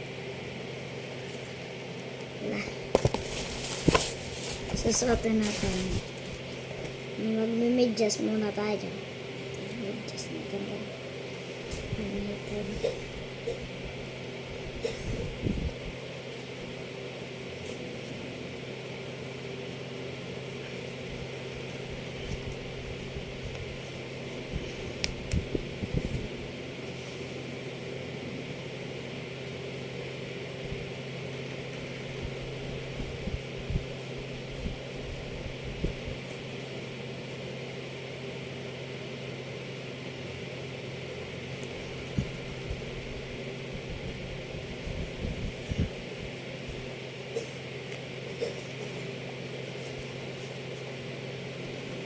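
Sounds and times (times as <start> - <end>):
appliance humming: 0.0 - 52.0.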